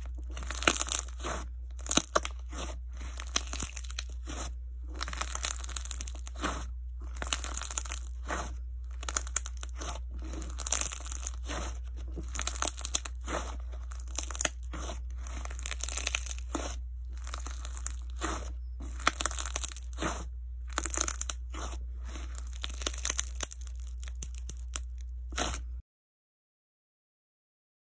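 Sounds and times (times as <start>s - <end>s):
low steady hum: 0.0s - 25.8s
slime squeezed crunching: 0.0s - 25.8s.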